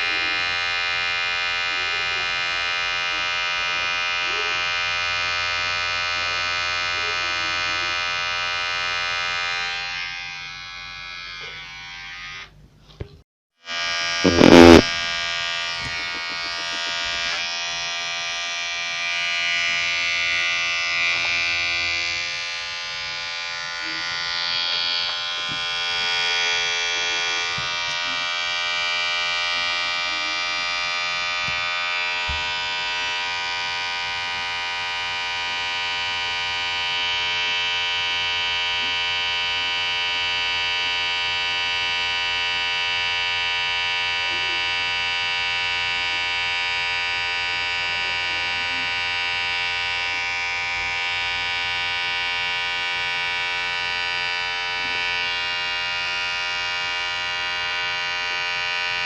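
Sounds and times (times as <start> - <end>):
electric hair clipper buzzing: 0.0 - 12.6, 13.6 - 59.0.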